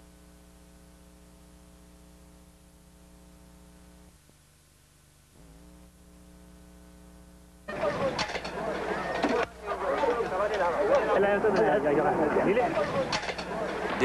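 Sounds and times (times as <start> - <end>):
faint electrical mains hum: 0.0 - 14.0.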